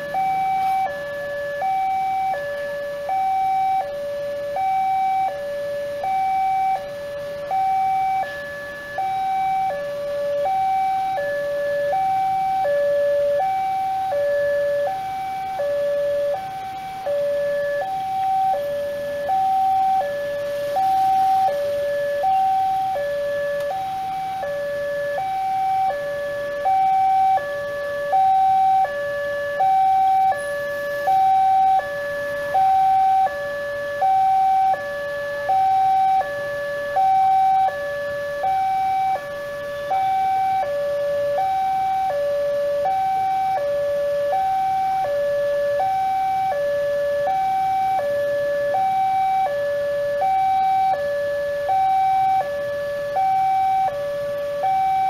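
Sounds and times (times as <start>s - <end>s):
two-tone electronic alarm: 0.0s - 55.0s.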